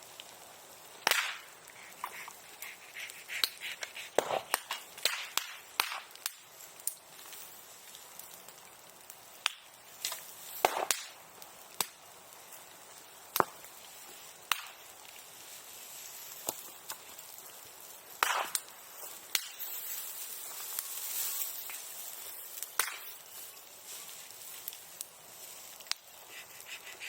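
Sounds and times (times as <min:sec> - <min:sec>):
bonfire crackling and popping: 0:00.0 - 0:27.0
fire hissing: 0:00.0 - 0:27.0.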